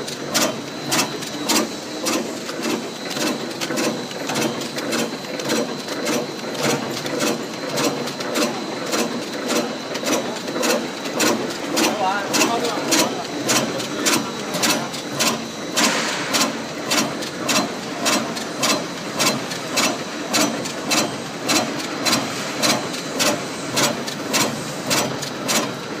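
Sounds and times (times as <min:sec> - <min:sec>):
packing machine sharp clacks: 0:00.0 - 0:26.0
steady mechanical hum: 0:00.0 - 0:26.0.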